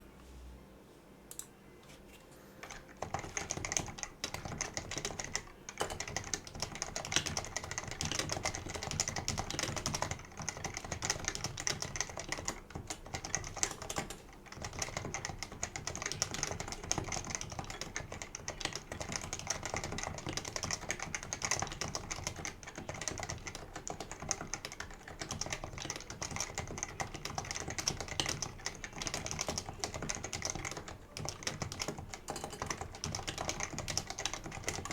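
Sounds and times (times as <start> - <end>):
fast keyboard typing: 2.6 - 34.9.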